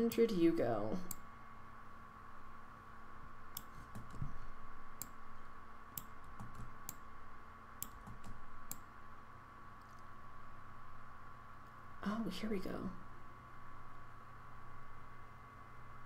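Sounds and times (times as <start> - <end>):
faint steady whine: 0.0 - 16.0.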